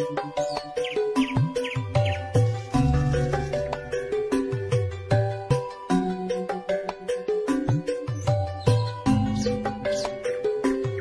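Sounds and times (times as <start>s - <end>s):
bright plucked melody: 0.0s - 11.0s.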